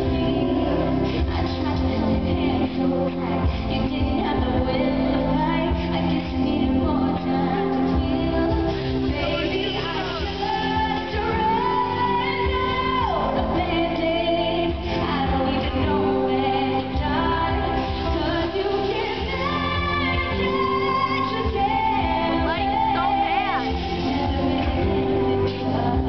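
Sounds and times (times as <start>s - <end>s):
woman singing a slow ballad: 0.0s - 26.0s.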